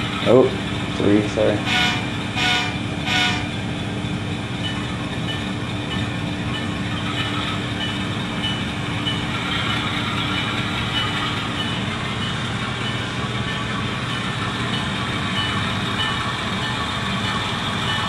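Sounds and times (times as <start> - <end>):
diesel locomotive sound from small speaker: 0.0 - 18.0.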